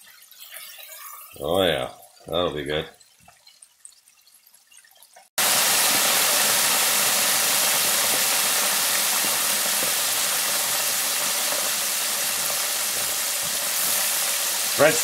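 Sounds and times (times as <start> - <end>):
oil bubbling and sizzling: 0.0 - 15.0.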